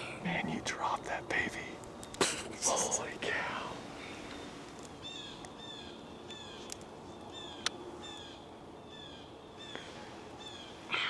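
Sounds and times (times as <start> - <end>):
bird calling: 2.0 - 11.0.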